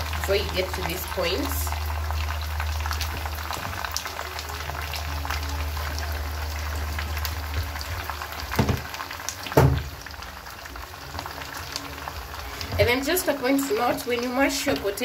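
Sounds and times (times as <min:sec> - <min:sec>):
hot oil sizzling and crackling: 0:00.0 - 0:15.0.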